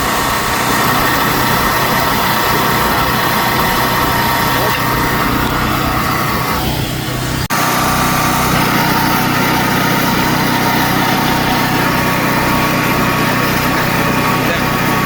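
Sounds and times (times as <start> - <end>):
electric drill running: 0.0 - 15.0.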